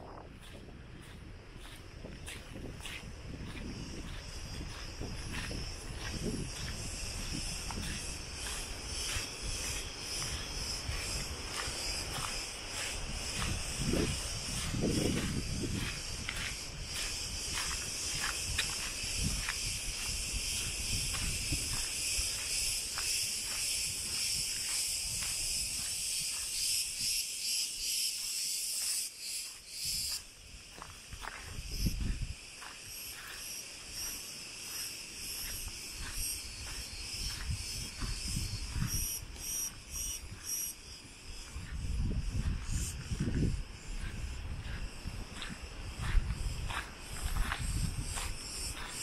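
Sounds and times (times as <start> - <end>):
wind rumbling on microphone: 0.0 - 27.9, 29.8 - 49.0
cicadas buzzing: 0.0 - 49.0
footsteps on gravel: 0.0 - 49.0.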